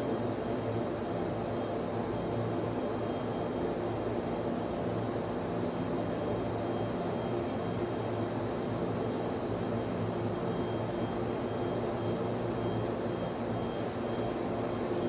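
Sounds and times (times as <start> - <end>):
equipment cooling fans humming: 0.0 - 15.0.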